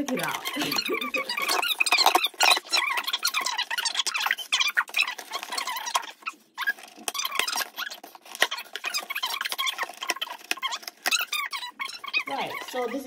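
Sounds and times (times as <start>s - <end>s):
packing tape squeaking and crackling: 0.0s - 13.0s.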